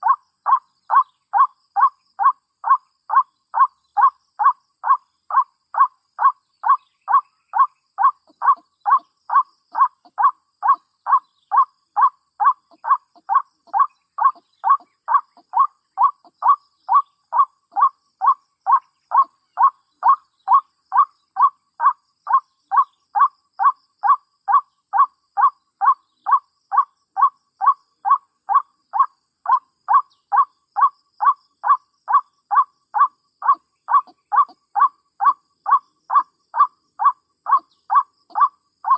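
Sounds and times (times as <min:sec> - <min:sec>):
waterhen call: 0:00.0 - 0:24.6, 0:25.4 - 0:38.9.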